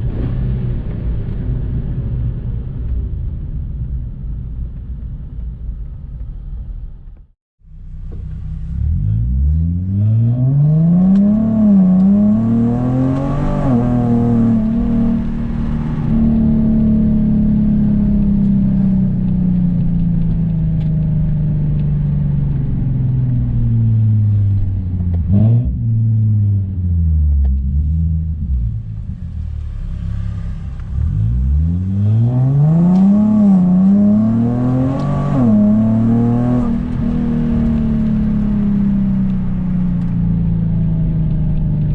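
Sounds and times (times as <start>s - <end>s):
car engine accelerating: 7.1s - 41.9s.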